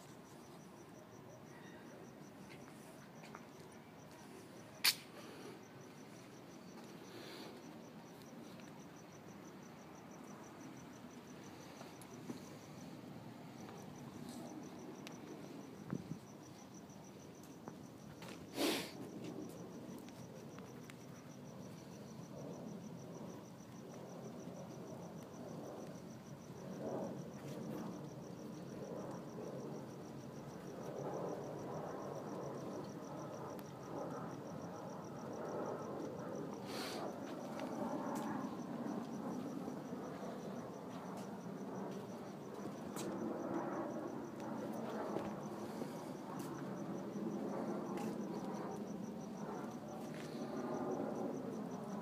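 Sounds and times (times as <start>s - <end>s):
cricket chirping: 0.0s - 52.0s.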